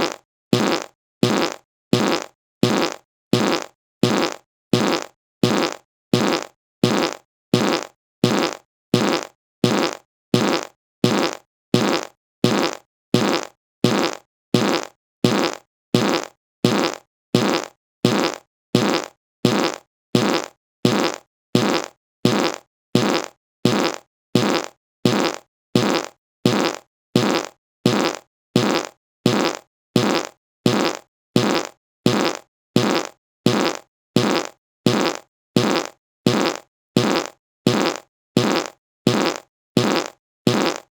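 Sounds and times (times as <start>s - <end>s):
short fart sound: 0.0s - 40.9s.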